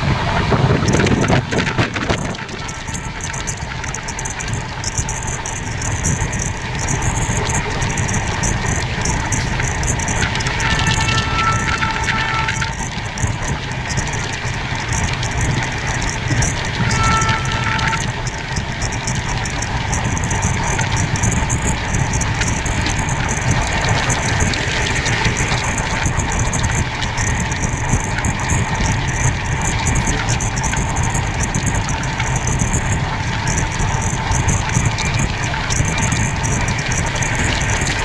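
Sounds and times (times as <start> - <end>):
train rattles and clicks: 0.0 - 38.0
train rumbling on rails: 0.0 - 38.0.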